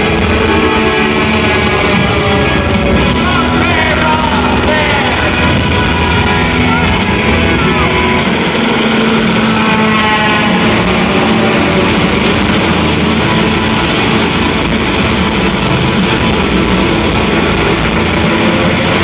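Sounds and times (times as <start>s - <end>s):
live band in arena: 0.0s - 19.0s.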